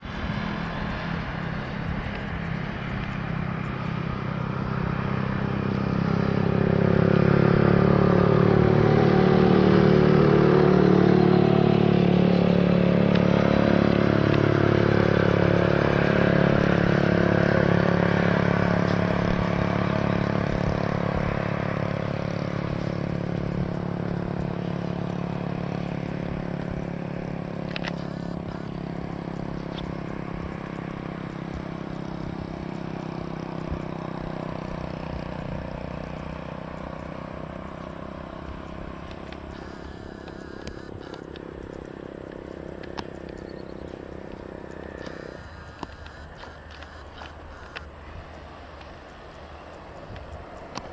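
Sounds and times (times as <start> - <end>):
aircraft engines passing: 0.0 - 50.9.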